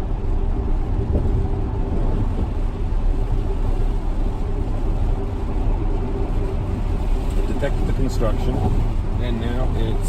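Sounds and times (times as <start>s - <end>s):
road and tyre noise in car cabin: 0.0s - 10.0s.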